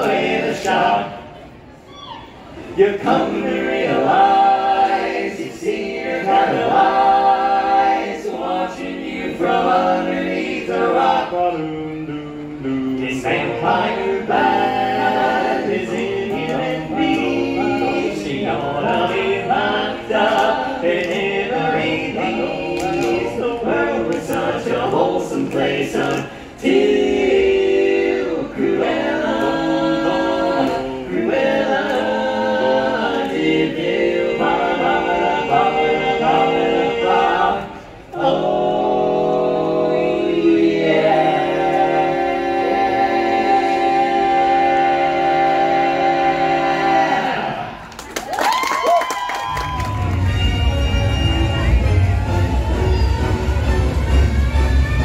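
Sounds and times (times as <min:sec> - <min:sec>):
male quartet singing a cappella: 0:00.0 - 0:01.3, 0:02.7 - 0:47.8.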